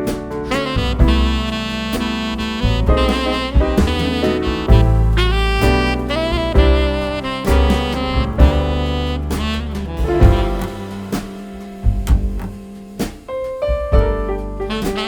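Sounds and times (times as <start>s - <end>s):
saxophone: 0.0s - 13.2s, 14.0s - 15.0s
bass: 0.0s - 15.0s
drums: 0.0s - 15.0s
piano: 0.0s - 15.0s.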